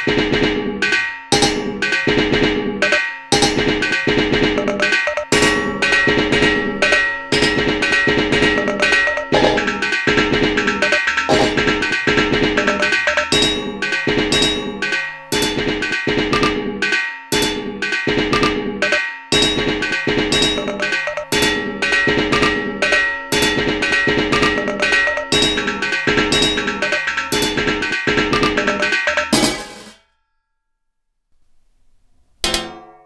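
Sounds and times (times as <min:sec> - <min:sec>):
percussive groove of metallic hits: 0:00.0 - 0:30.0.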